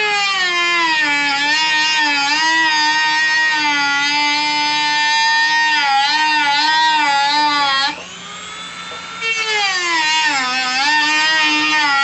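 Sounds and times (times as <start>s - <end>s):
motor whining: 0.0s - 12.0s.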